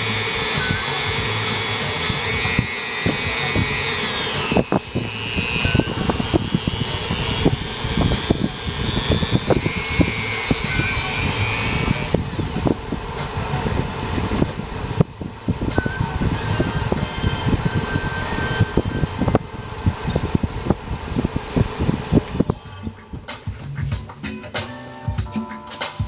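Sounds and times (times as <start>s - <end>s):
rotary tool whining: 0.0s - 25.1s.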